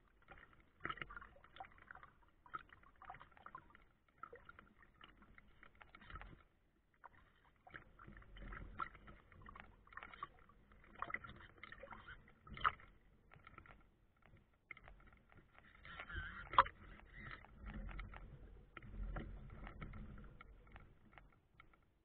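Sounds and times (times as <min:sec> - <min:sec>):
water splashing against a hull: 0:00.0 - 0:22.0.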